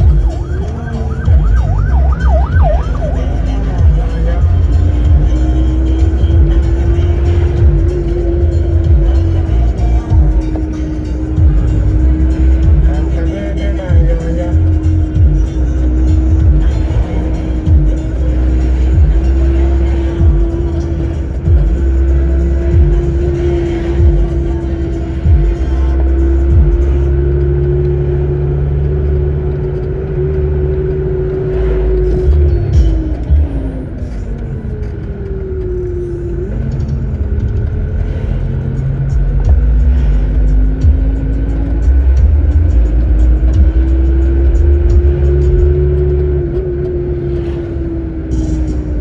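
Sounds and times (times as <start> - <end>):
road rumble: 0.0 - 49.0
vehicle engine running: 0.0 - 49.0.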